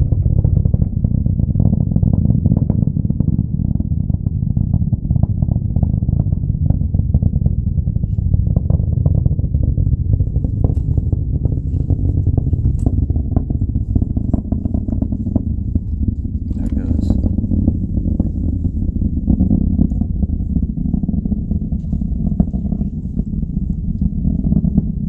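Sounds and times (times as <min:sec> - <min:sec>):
distant rocket engine rumble: 0:00.0 - 0:25.0.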